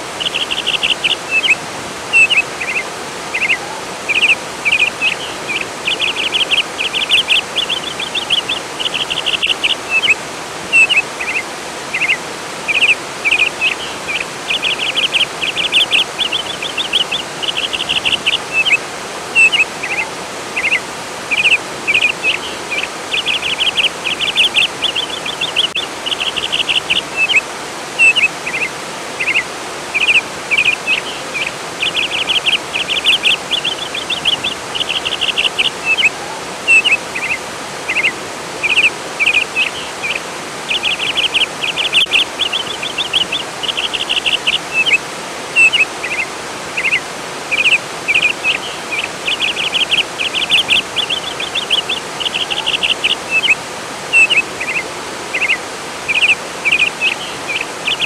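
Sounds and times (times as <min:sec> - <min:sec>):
flowing water rushing: 0:00.0 - 0:58.0
songbird trilling and chirping: 0:00.2 - 0:18.8, 0:19.4 - 0:27.4, 0:28.0 - 0:45.0, 0:45.6 - 0:58.0.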